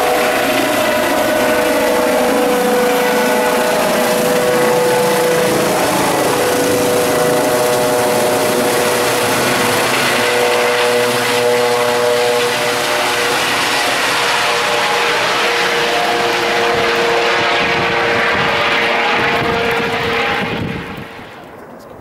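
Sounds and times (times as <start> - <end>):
helicopter turbine whine: 0.0 - 22.0
rush of helicopter rotors: 0.0 - 22.0.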